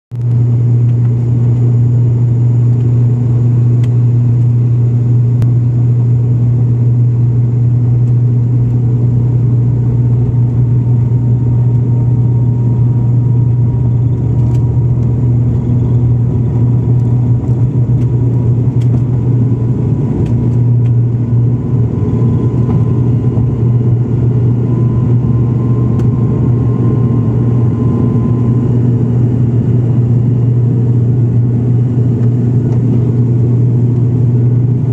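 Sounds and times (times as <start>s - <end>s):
propeller drone: 0.1s - 34.9s
faint high whine: 0.2s - 18.4s, 19.0s - 34.7s.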